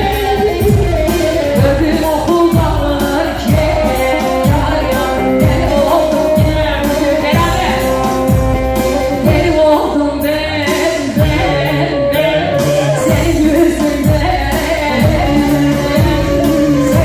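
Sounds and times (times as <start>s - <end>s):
drum beat: 0.0s - 9.8s, 12.5s - 17.0s
band playing dance music: 0.0s - 17.0s
person singing: 0.0s - 17.0s.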